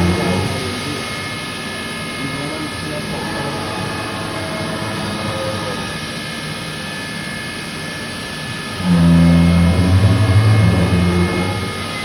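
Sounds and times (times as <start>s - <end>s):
loud low hum: 0.0s - 12.0s
machine whining: 0.0s - 12.0s.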